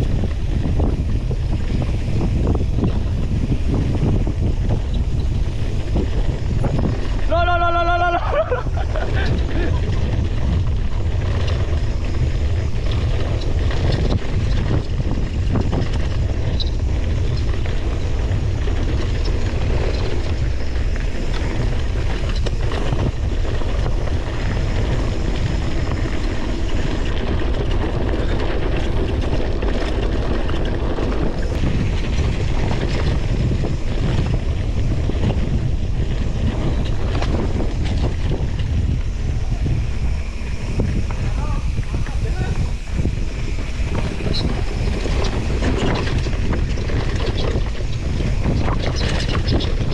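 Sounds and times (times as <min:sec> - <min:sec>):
bike knocking and rattling: 0:00.0 - 0:49.9
bike tyre noise: 0:00.0 - 0:49.9
wind rushing over microphone: 0:00.0 - 0:49.9.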